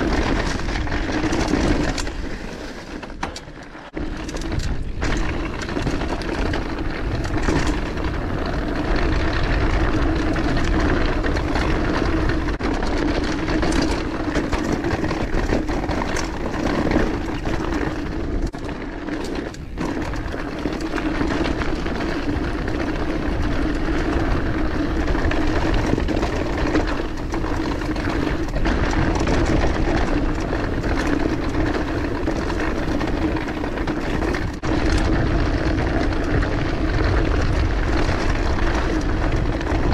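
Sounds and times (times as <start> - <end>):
bike tyres rolling on dirt: 0.0 - 39.9.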